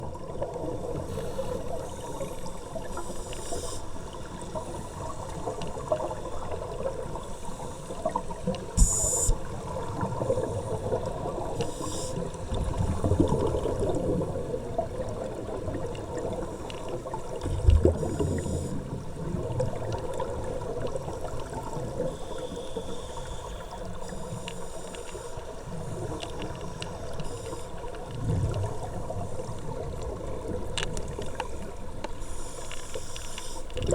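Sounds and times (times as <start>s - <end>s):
water gurgling and sloshing: 0.0s - 33.9s.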